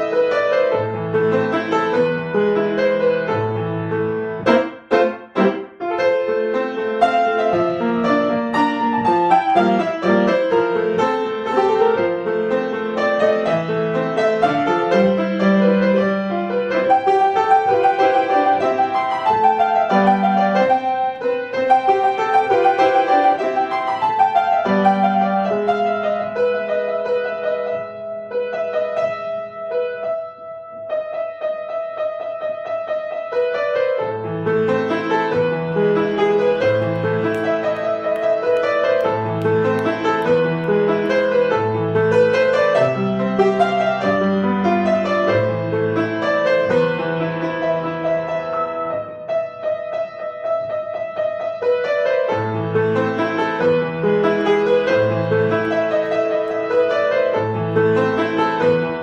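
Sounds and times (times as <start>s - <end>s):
piano piece: 0.0s - 59.0s.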